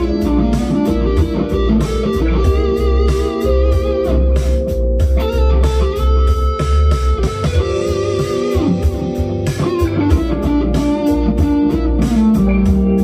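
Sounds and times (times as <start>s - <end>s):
electric guitar lead with bends: 0.0s - 13.0s
funk backing track: 0.0s - 13.0s.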